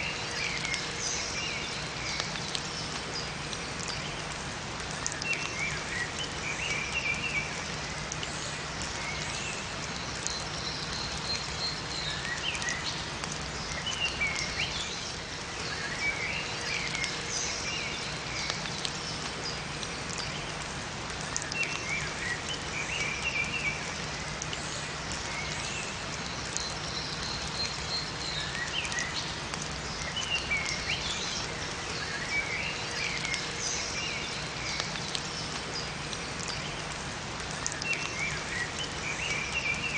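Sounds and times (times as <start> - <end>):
rain falling in forest: 0.0 - 39.9
songbirds chirping: 0.0 - 39.9.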